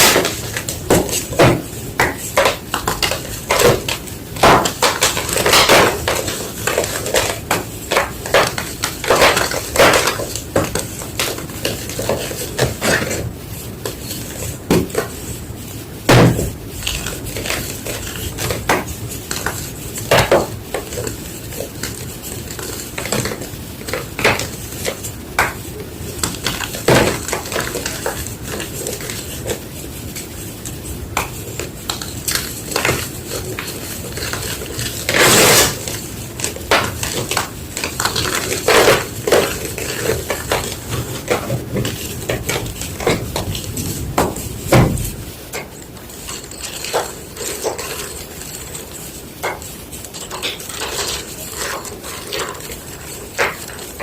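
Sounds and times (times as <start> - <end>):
chalk crunching and crumbling: 0.0 - 54.0.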